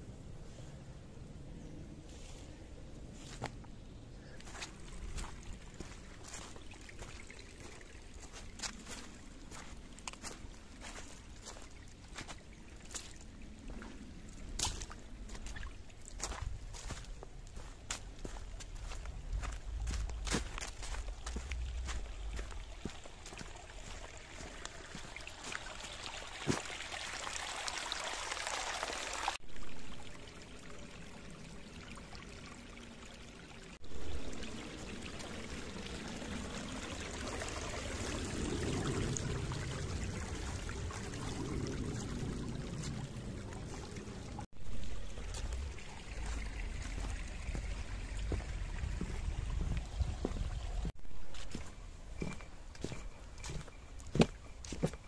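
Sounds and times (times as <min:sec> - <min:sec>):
stream rushing over rocks: 0:04.4 - 0:33.0, 0:33.7 - 0:54.9.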